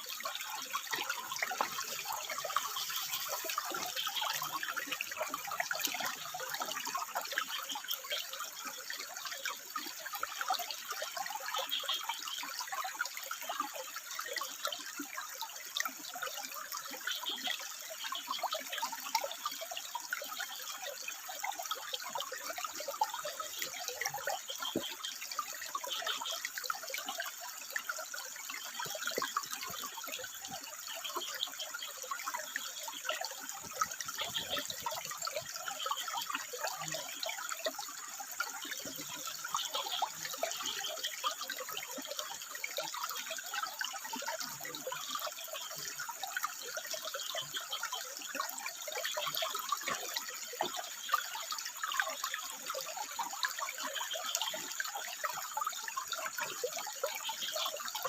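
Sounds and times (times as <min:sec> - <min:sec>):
water trickling over rocks: 0:00.0 - 0:58.0.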